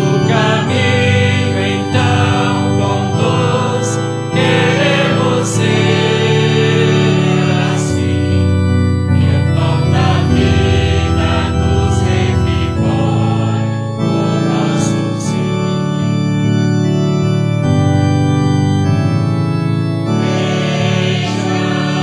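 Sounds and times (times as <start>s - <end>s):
organ playing sustained chords: 0.0s - 22.0s.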